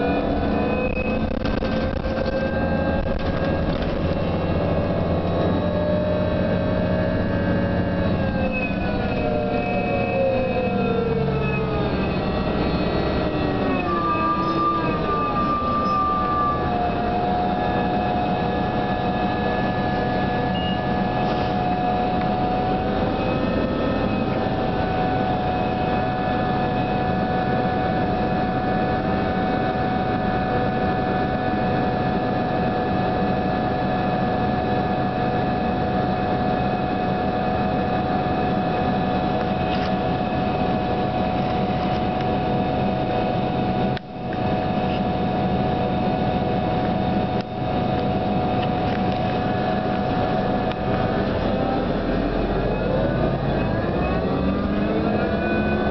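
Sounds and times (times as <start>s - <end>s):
bus high-pitched whine: 0.0s - 55.9s
bus running and road rumble: 0.0s - 55.9s.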